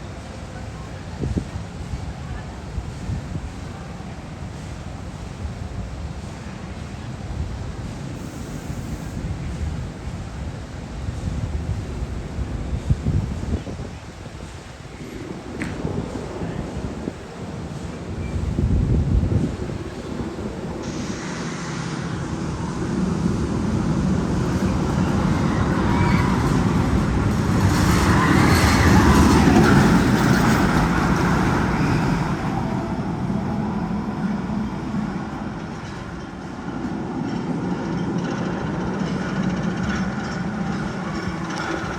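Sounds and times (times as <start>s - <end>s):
roller coaster rumbling on track: 0.0s - 41.9s.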